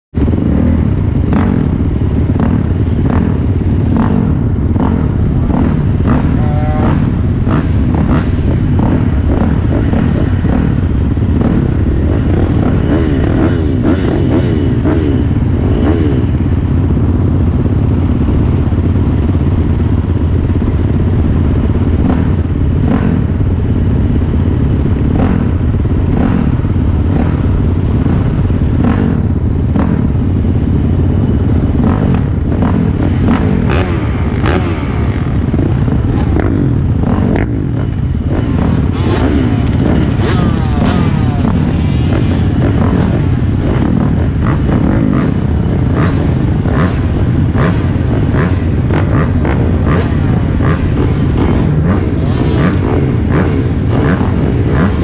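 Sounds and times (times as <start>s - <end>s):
dirt bikes idling: 0.2s - 55.0s
motorbike engine revving: 0.2s - 55.0s.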